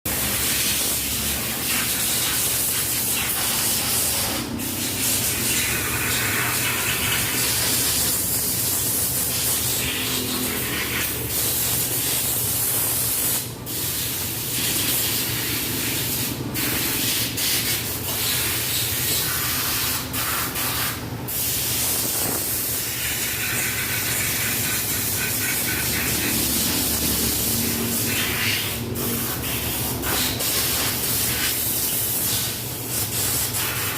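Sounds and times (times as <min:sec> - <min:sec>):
compressed air hissing from hose: 0:00.1 - 0:33.9.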